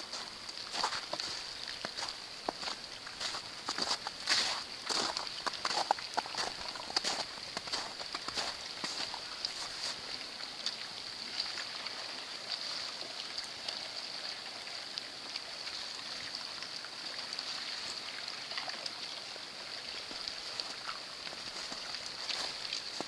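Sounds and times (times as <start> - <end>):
river water rushing under ice: 0.0 - 23.0.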